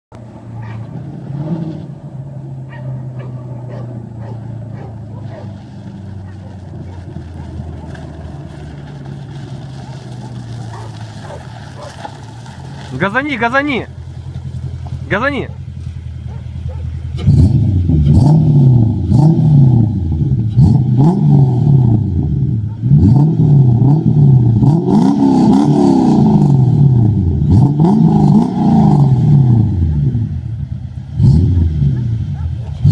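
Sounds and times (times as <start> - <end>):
car engine revving: 0.2 - 32.9.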